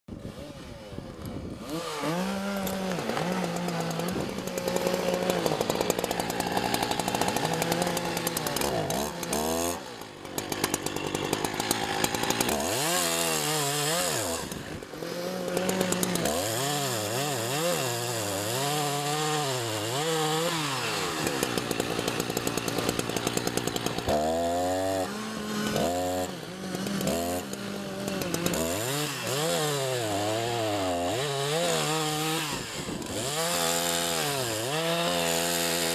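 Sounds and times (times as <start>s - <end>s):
chainsaw cutting wood: 0.1s - 35.9s.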